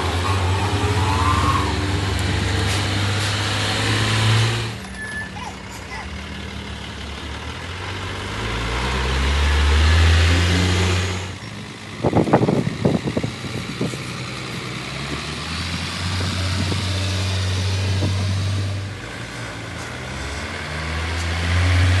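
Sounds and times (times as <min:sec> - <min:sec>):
truck engine pulling hard: 0:00.0 - 0:22.0.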